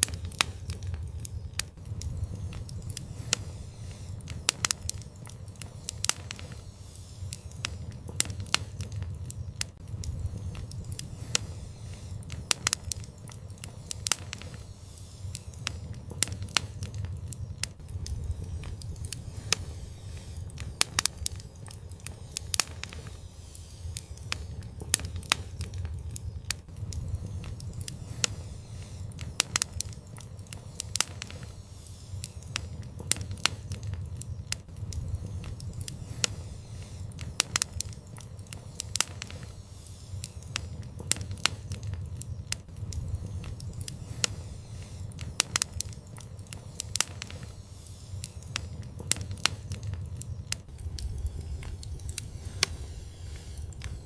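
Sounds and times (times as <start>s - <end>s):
fire crackling and popping: 0.0s - 54.0s
low rumble: 0.0s - 54.0s.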